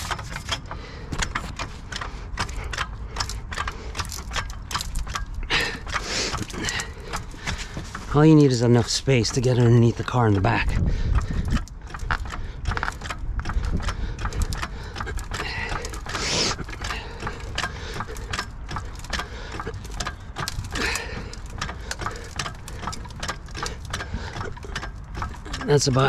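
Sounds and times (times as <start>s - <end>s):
hydraulic jack clicking: 0.0s - 26.0s.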